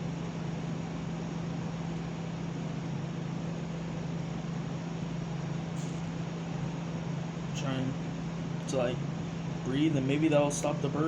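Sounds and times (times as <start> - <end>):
steady machine hum with hiss: 0.0 - 11.0.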